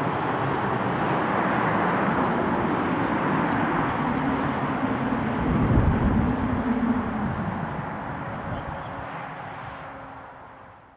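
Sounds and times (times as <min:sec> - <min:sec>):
jet engines roaring in reverse thrust: 0:00.0 - 0:10.6.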